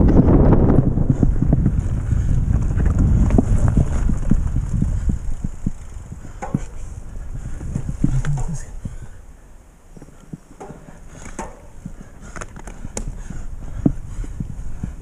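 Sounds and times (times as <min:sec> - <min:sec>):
tyres rumbling on dirt: 0:00.0 - 0:14.0
bike clicks and rattles: 0:00.0 - 0:15.0
wind buffeting microphone: 0:00.0 - 0:15.0.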